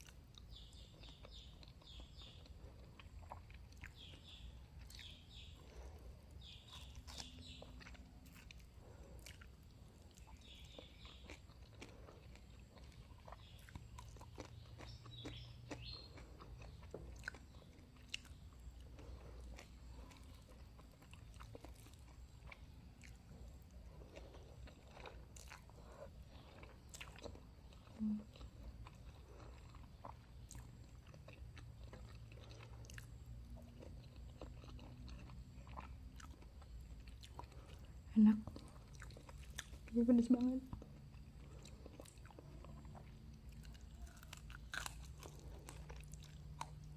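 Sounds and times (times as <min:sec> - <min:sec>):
person chewing and biting: 0:00.0 - 0:40.0, 0:40.7 - 0:46.9.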